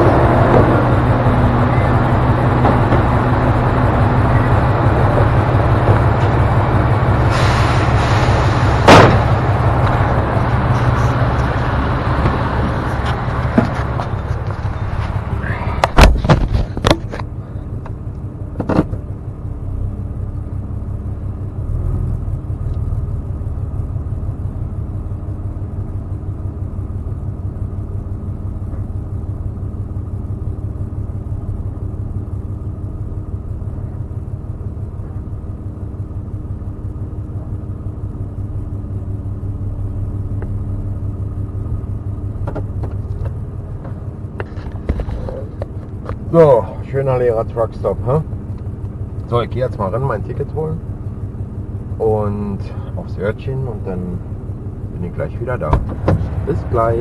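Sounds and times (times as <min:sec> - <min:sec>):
pickup truck engine rumbling: 0:00.0 - 0:57.0.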